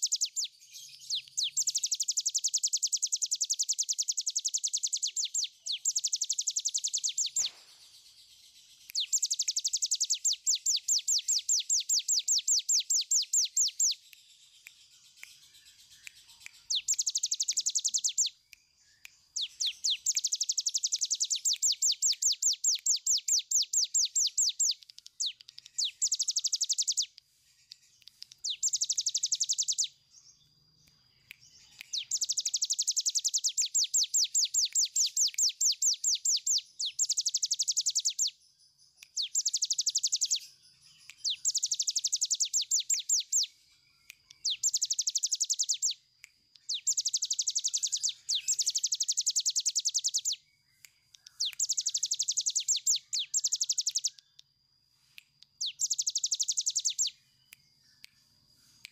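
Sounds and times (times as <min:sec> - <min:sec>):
bird singing rapid trill: 0:00.0 - 0:43.6, 0:44.3 - 0:54.4, 0:55.6 - 0:58.0.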